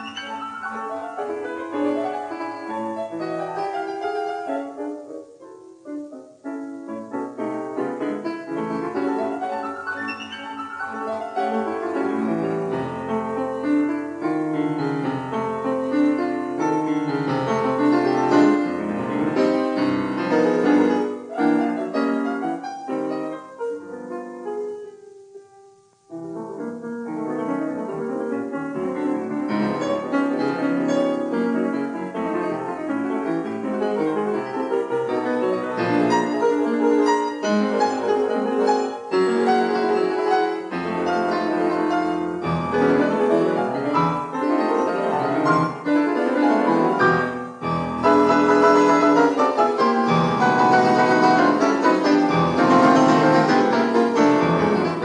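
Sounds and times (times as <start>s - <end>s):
classical piano music: 0.0s - 55.0s.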